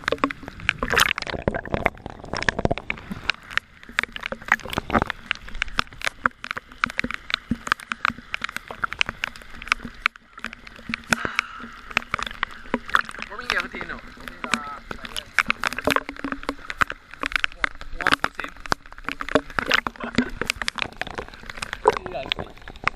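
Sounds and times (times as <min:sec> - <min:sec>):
water splashing against camera: 0:00.0 - 0:22.9.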